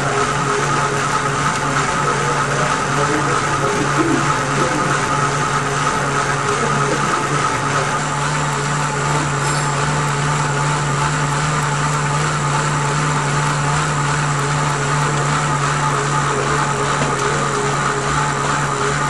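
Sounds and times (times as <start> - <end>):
bike trainer whirring: 0.0 - 19.0.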